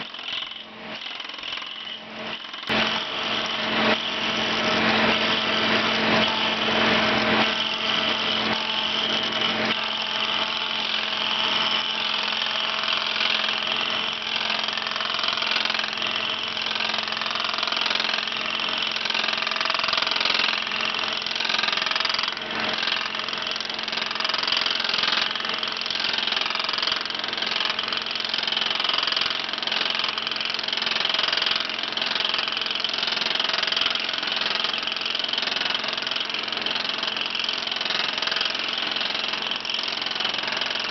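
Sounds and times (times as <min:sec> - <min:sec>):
lathe cutter shaving wood: 0:00.0 - 0:40.9.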